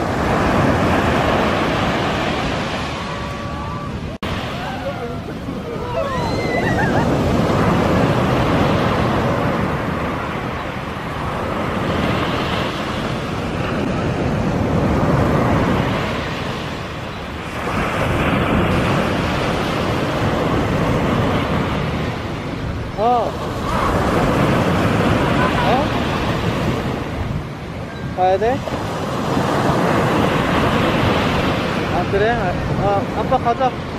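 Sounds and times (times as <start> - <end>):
sea waves breaking on beach: 0.0 - 33.9.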